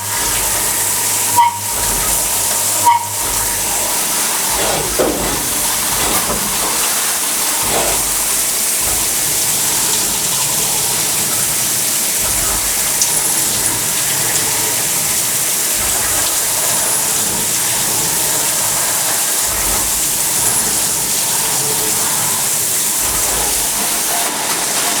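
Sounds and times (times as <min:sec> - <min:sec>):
milling machine hissing rush: 0:00.0 - 0:25.0.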